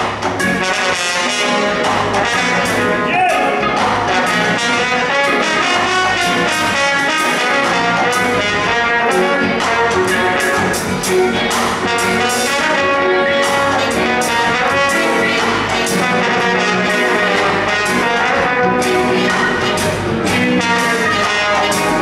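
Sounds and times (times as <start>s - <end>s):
drums: 0.0s - 22.0s
keyboard: 0.0s - 22.0s
brass horn solo melody: 0.4s - 22.0s.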